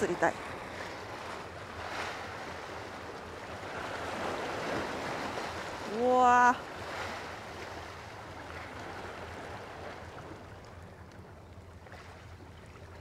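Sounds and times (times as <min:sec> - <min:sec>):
low steady hum: 0:00.0 - 0:13.0
sea water lapping gently: 0:00.0 - 0:13.0
wind: 0:00.0 - 0:13.0.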